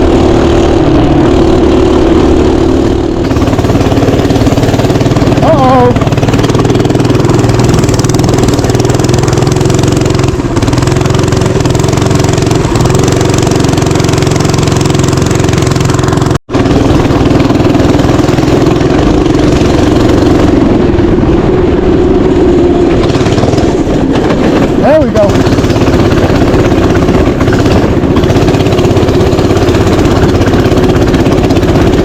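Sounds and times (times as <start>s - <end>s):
mini bike engine running: 0.0s - 32.0s.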